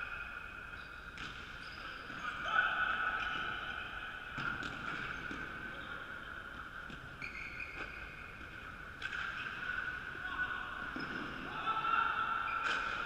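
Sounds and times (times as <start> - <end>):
sneakers squeaking: 0.0 - 13.0.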